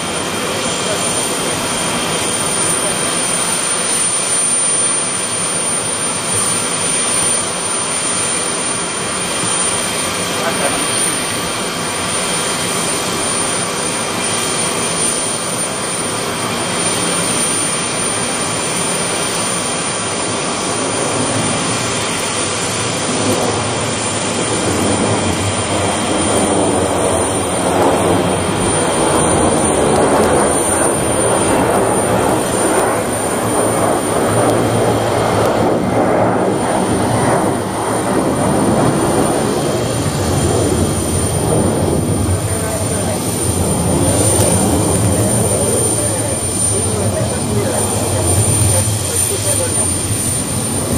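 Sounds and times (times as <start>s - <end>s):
jet flying low: 0.0s - 50.9s.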